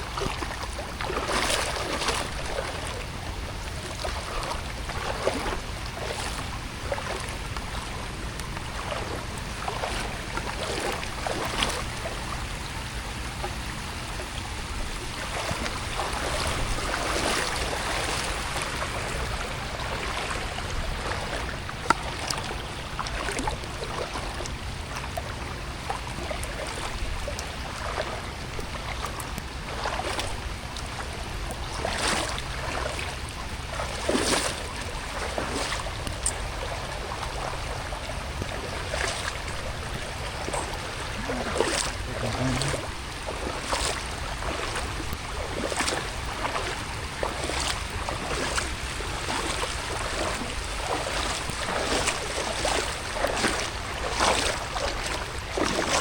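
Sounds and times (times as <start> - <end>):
running water: 0.0 - 56.0
small splashes: 0.0 - 56.0.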